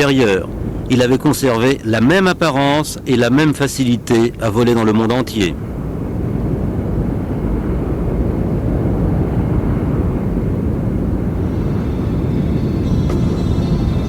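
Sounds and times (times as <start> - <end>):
jet engines deep rumble: 0.0 - 14.0.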